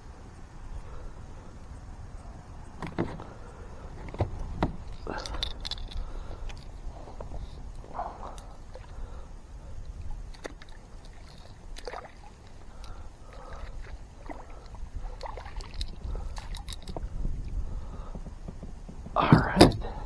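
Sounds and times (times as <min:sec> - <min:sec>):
steady low rumble: 0:00.0 - 0:20.0
water lapping around a kayak: 0:00.1 - 0:20.0.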